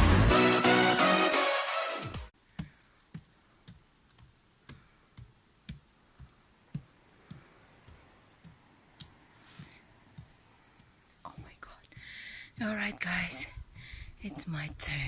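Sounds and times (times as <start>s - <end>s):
footsteps on walkway: 2.5s - 15.0s.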